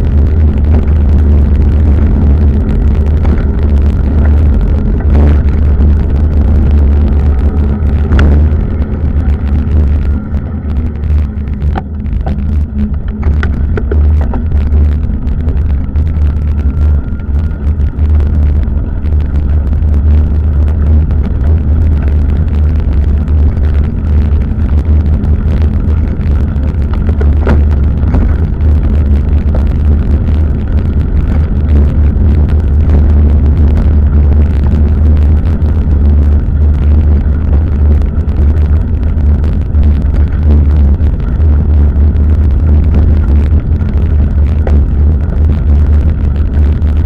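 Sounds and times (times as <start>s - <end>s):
wind and road rumble on microphone: 0.0s - 47.0s.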